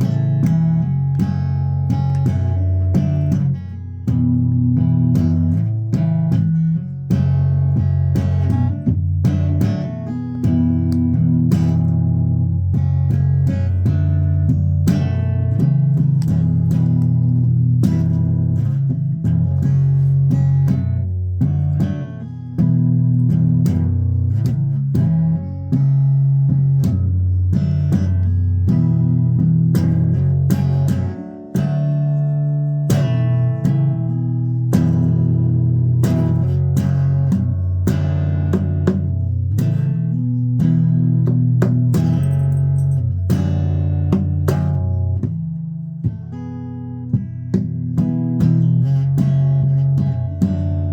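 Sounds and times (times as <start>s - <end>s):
guitar playing: 0.0s - 50.9s.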